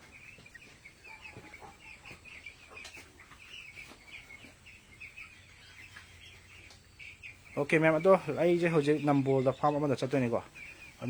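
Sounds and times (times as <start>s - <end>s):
chickens peeping: 0.0s - 11.0s.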